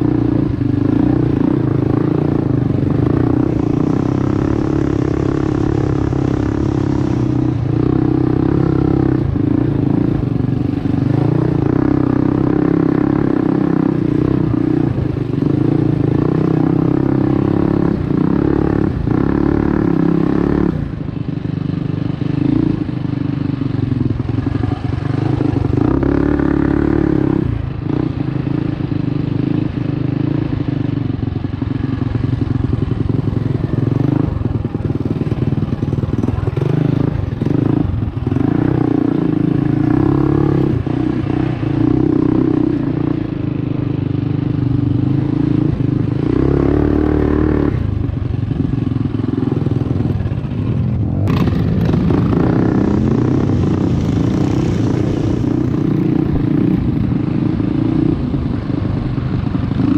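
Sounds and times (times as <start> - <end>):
mini bike engine revving: 0.0 - 59.9.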